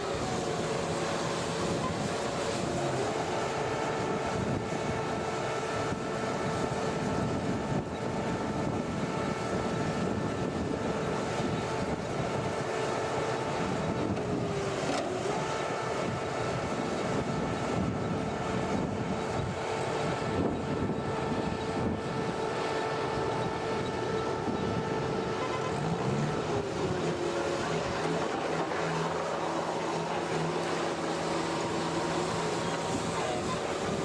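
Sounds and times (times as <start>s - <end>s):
engine running with whine: 0.0s - 34.0s.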